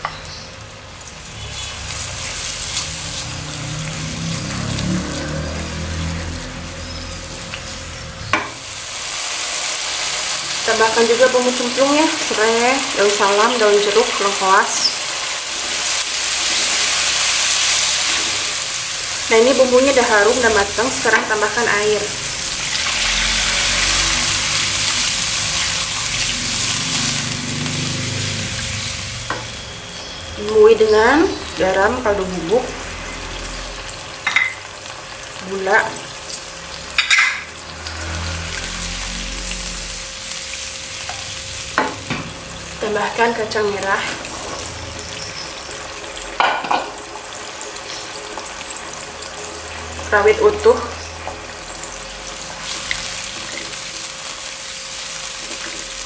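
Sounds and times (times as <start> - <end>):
broth simmering and sizzling in wok: 0.0 - 56.0
water hissing in hot oil: 0.3 - 56.0.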